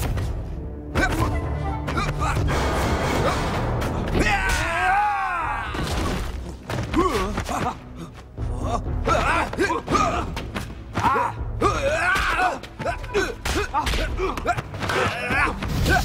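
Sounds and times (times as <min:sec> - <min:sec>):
film music score: 0:00.0 - 0:16.0
fighters grunting and shouting: 0:00.9 - 0:16.0.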